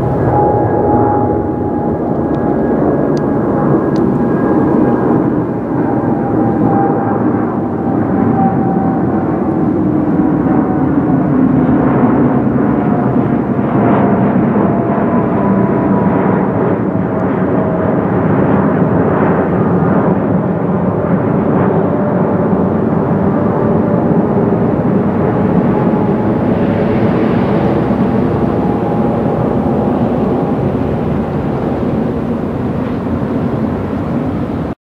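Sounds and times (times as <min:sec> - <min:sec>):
jet airliner engines roaring: 0:00.0 - 0:34.8.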